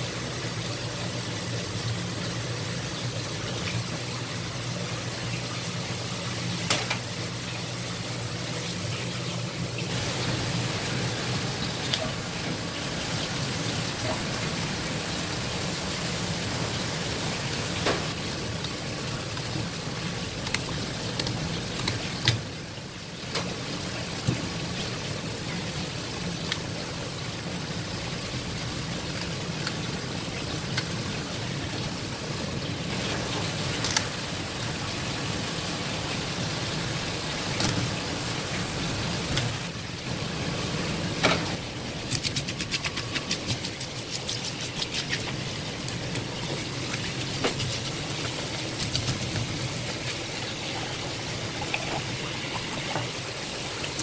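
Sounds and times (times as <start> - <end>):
low machine hum: 0.0 - 54.0
tap water running into tub: 0.0 - 54.0.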